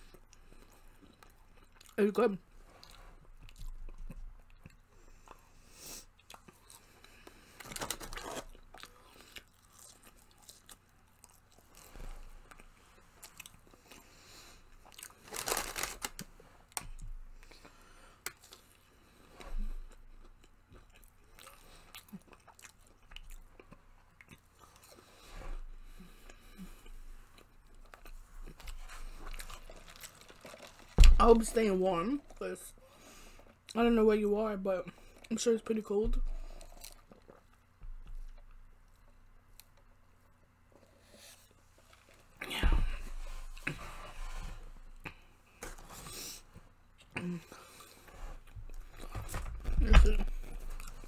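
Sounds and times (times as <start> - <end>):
chewing and crunching fried food: 0.0 - 33.9, 34.8 - 51.0.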